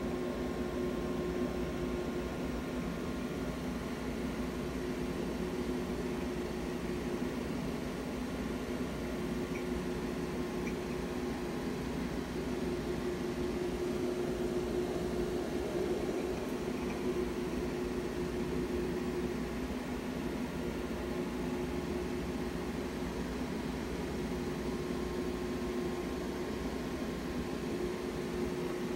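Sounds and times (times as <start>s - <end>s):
machine hum with hiss: 0.0s - 28.9s.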